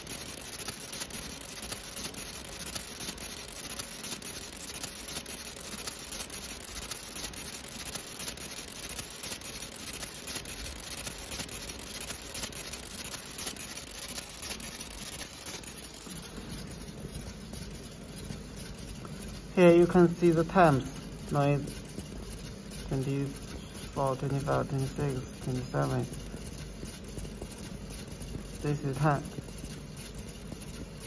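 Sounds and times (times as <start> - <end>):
laser crackling hiss: 0.0 - 31.0.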